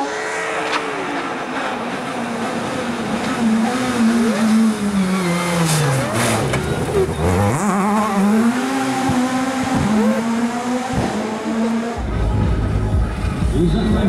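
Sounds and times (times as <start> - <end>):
rally car engine: 0.0 - 14.0.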